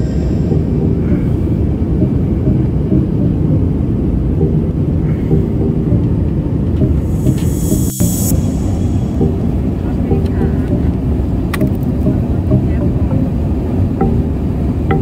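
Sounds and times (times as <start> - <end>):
airliner cabin engine rumble: 0.0 - 14.7.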